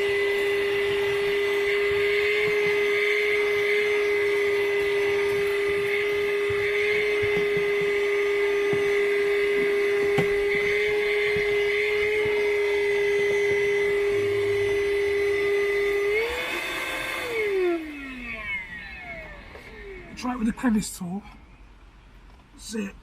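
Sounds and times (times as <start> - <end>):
handheld vacuum cleaner whining: 0.0 - 20.7.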